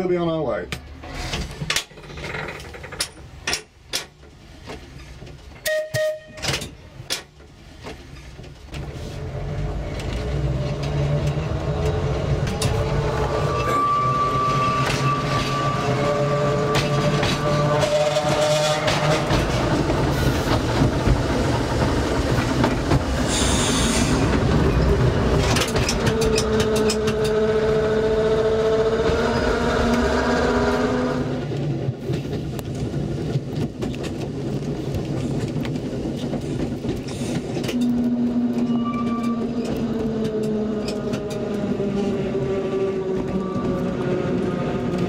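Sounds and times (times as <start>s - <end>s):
tram rumble: 0.0s - 45.0s
wheels clicking over rails: 0.8s - 45.0s.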